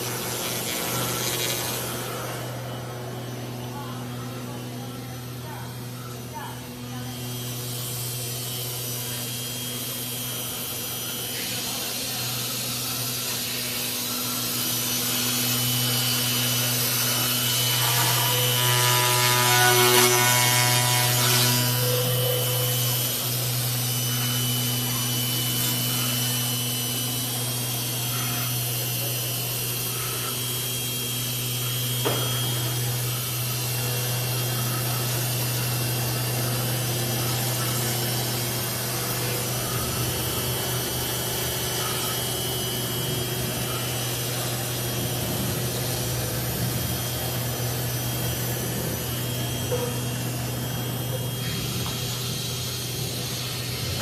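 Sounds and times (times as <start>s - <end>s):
router spindle milling foam: 0.0s - 54.0s.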